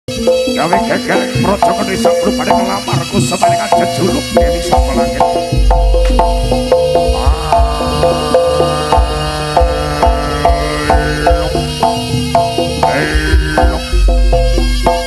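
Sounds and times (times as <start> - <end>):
drums: 0.1 - 15.0
sliding melodic line: 0.1 - 15.0
tuned metal percussion: 0.1 - 15.0.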